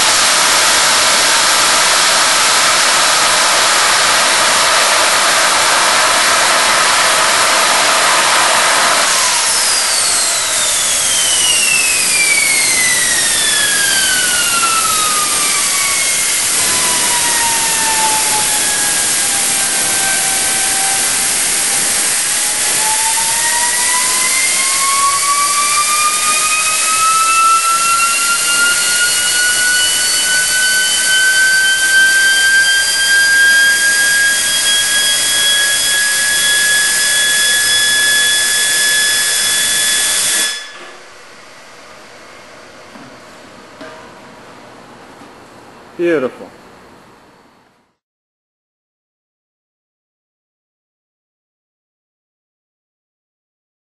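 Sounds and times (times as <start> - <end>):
jet exhaust rush: 0.0 - 45.2
turbine whine: 0.0 - 48.0.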